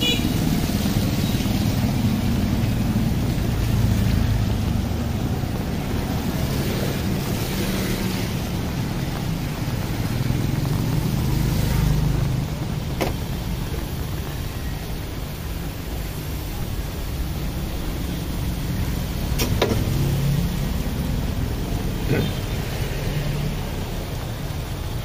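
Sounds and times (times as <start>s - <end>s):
rain hiss: 0.0s - 25.0s
traffic passing: 0.0s - 25.0s.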